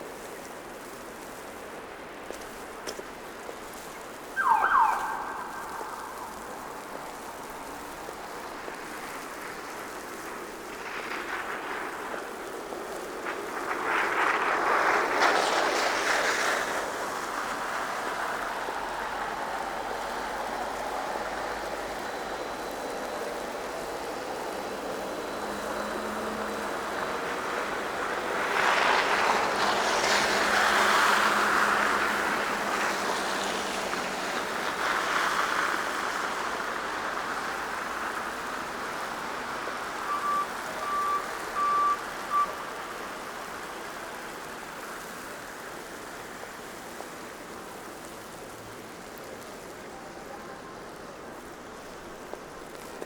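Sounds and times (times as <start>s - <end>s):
vehicles hissing past on slush: 0.0s - 53.0s.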